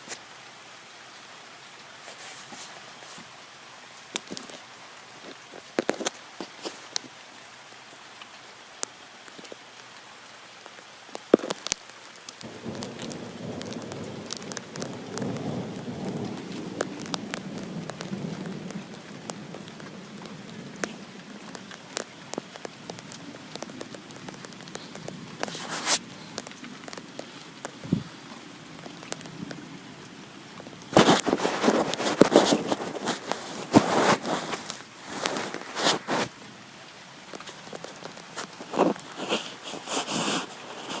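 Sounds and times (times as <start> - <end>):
heavy rain hissing: 0.0 - 41.0
rain drops hitting close by: 0.0 - 41.0.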